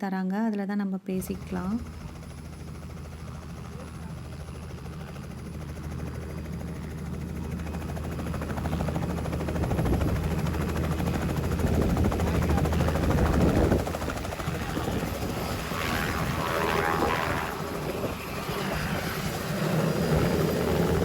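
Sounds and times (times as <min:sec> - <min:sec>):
helicopter engine: 0:01.1 - 0:21.0
helicopter rotor chopping: 0:01.1 - 0:21.0.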